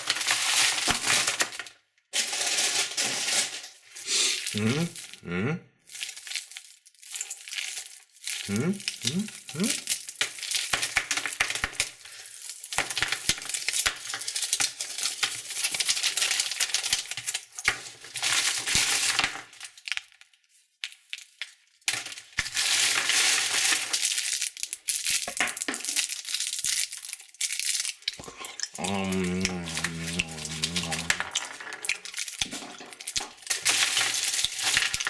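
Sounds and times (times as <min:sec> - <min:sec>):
candy wrappers crinkling: 0:00.0 - 0:05.2, 0:05.9 - 0:35.0.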